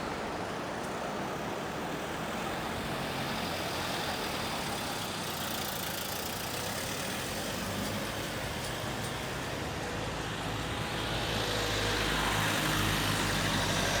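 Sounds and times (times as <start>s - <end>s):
traffic: 0.0s - 14.0s.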